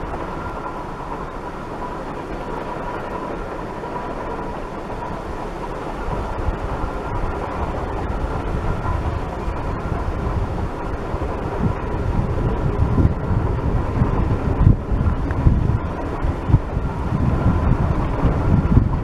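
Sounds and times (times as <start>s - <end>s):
distant steam locomotive: 0.0s - 19.0s
wind rumbling on microphone: 0.0s - 19.0s.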